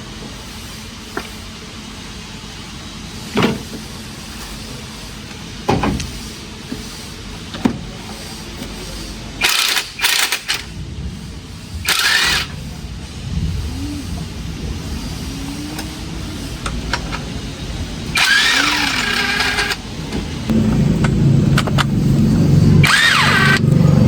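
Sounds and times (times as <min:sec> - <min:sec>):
loud hissing bursts: 0:00.0 - 0:24.0
steady low hum: 0:00.0 - 0:24.0.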